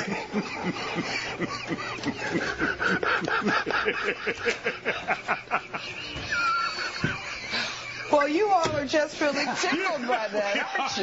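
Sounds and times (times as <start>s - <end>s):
people laughing uncontrollably: 0.0s - 8.6s, 9.2s - 11.0s.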